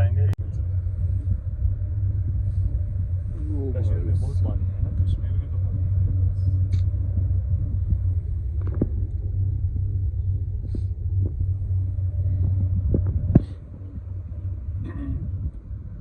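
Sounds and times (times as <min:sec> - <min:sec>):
cable car cabin rumble: 0:00.0 - 0:16.0.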